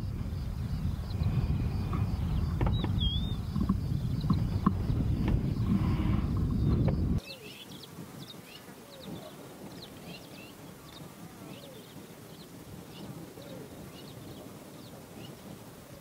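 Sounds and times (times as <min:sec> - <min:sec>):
birds chirping: 0:00.0 - 0:16.0
lower bird calls: 0:00.0 - 0:16.0.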